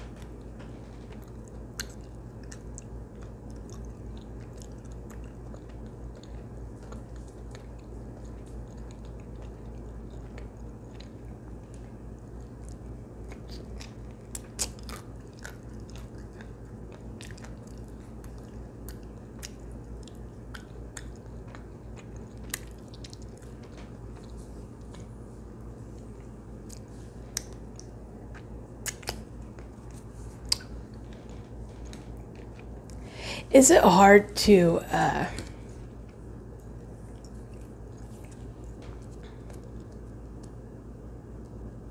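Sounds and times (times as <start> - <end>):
chewing and mouth sounds: 0.0 - 33.3, 35.4 - 41.8
steady low hum: 0.0 - 41.9.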